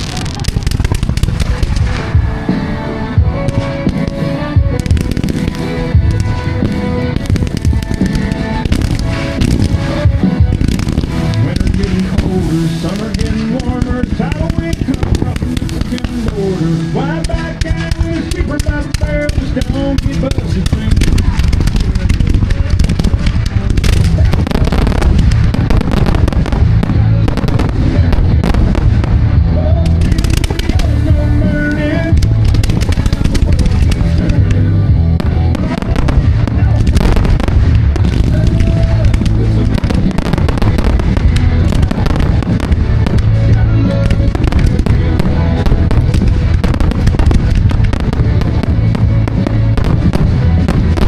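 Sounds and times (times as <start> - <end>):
fireworks bangs and crackling: 0.0 - 51.0
heavy low rumble: 0.0 - 51.0
music playing: 0.0 - 51.0.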